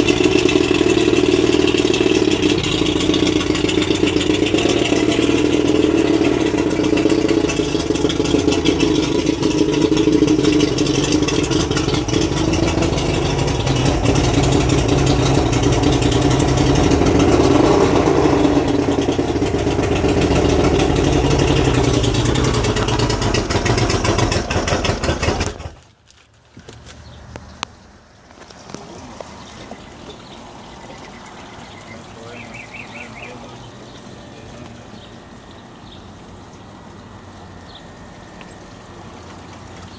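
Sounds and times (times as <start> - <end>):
outboard motor running: 0.0 - 25.9, 28.6 - 39.9.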